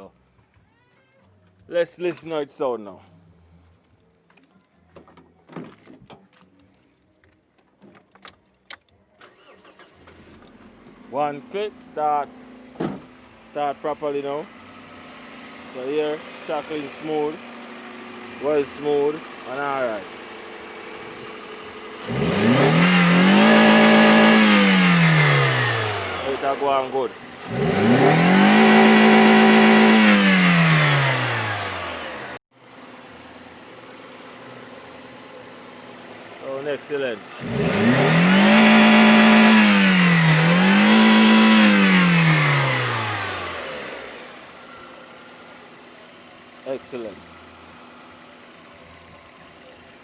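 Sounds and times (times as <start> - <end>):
car engine idling and revving: 9.2 - 50.0.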